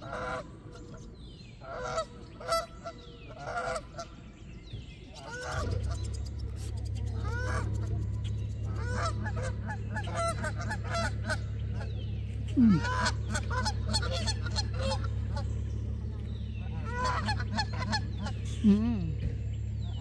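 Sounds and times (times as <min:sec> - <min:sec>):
geese honking: 0:00.0 - 0:18.6
steady low hum: 0:00.0 - 0:20.0.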